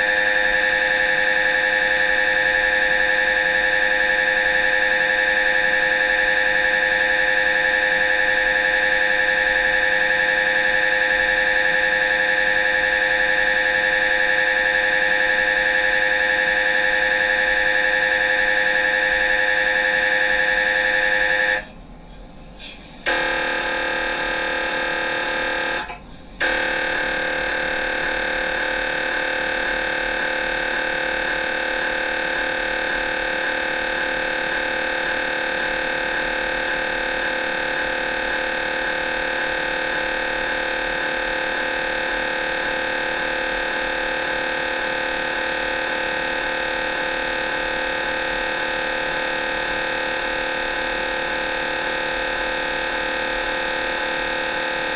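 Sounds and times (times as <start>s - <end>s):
mri scanner buzzing: 0.0s - 54.9s.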